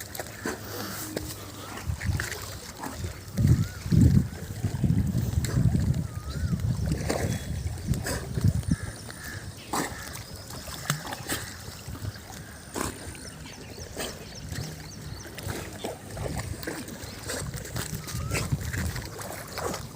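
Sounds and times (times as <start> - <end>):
water splashing and sloshing: 0.0 - 19.9.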